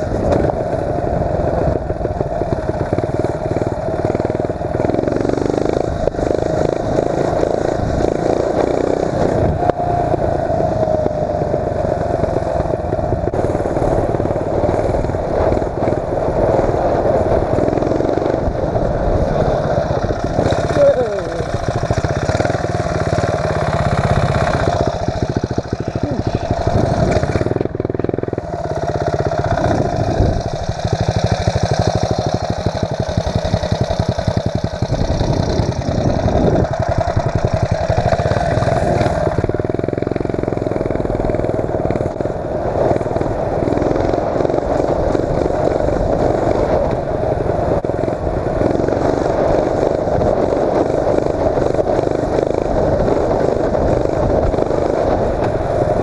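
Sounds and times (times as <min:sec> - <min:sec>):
mini bike engine running: 0:00.0 - 0:56.0.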